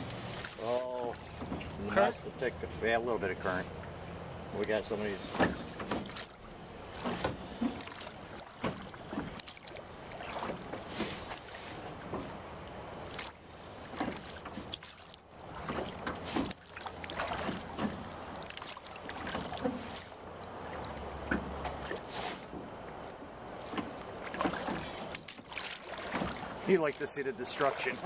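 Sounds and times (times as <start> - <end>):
boat knocks: 0.0 - 4.0, 4.6 - 28.0
water splashing around boat: 0.0 - 28.0.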